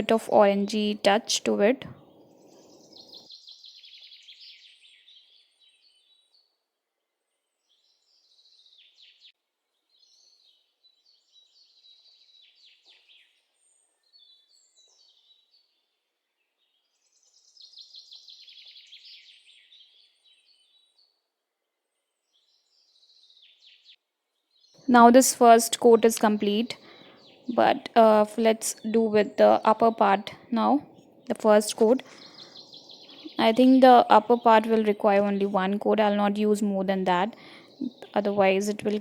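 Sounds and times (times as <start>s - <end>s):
faint birdsong chirps and trills: 0.0s - 39.0s.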